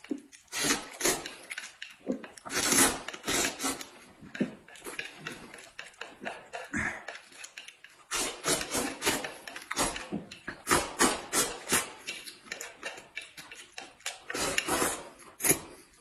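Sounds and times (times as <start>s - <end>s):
chewing: 0.0s - 16.0s
noodles being slurped: 0.0s - 16.0s.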